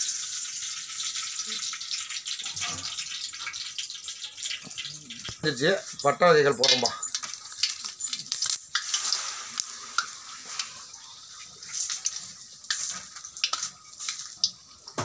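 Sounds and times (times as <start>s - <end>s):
leaves sizzling in hot oil: 0.0s - 15.0s
oil crackling and popping: 0.0s - 15.0s.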